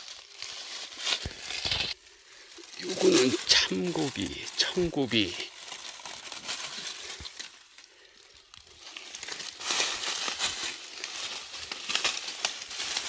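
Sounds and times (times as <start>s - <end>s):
dry leaves rustling and crackling: 0.0s - 13.0s.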